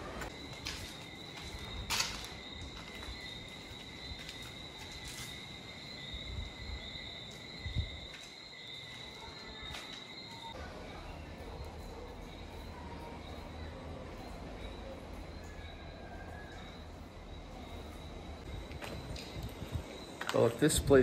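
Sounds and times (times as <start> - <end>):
insect high-pitched trill: 0.3 - 21.0.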